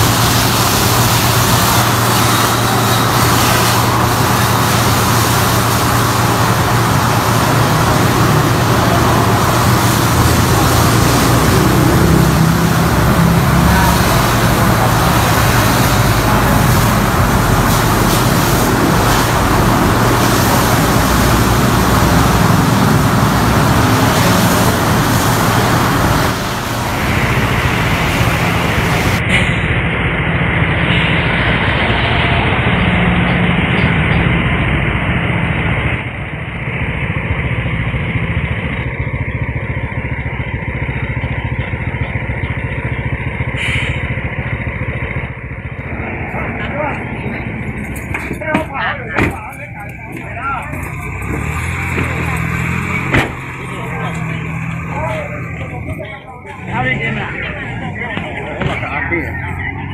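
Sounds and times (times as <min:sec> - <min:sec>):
vehicle engines running: 0:00.0 - 0:59.9.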